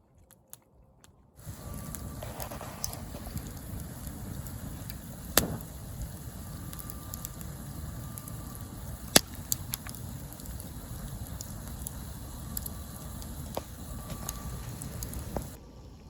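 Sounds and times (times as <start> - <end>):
campfire burning: 0.0 - 16.0
burning wood snapping: 0.2 - 15.6
burning wood popping: 1.4 - 15.6.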